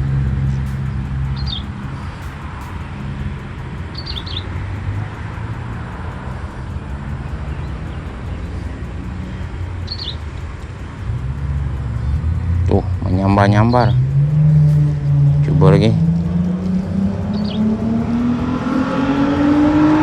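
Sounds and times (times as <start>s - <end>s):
bird chirping: 0.0s - 20.0s
engine rumbling: 0.0s - 20.0s.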